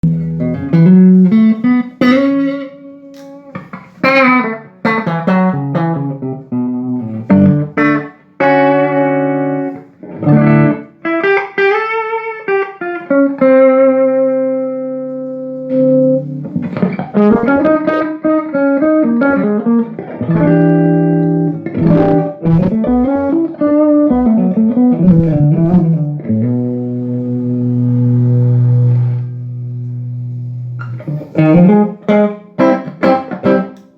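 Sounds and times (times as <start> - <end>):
clean electric guitar playing: 0.0 - 33.9.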